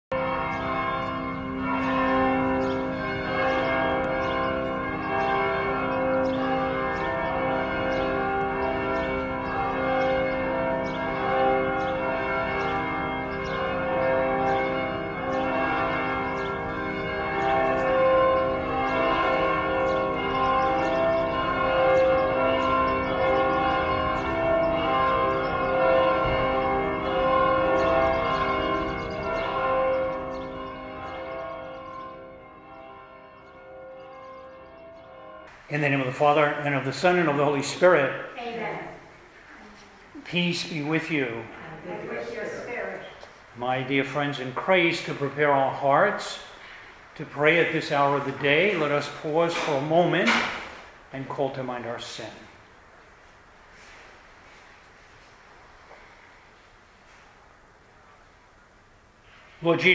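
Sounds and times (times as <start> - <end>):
church bells ringing: 0.1 - 59.9.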